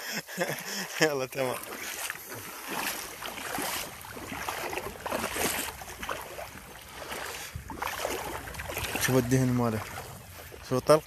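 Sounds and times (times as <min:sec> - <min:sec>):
water sloshing from wading: 0:00.2 - 0:11.0.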